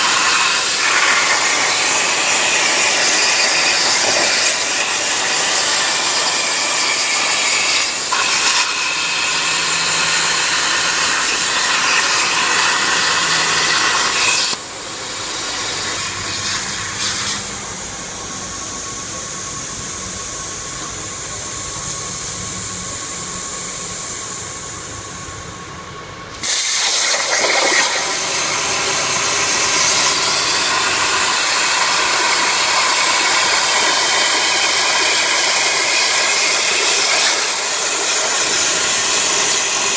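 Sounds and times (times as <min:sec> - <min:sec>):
plasma cutter arc hissing: 0:00.0 - 0:25.3, 0:26.3 - 0:39.9.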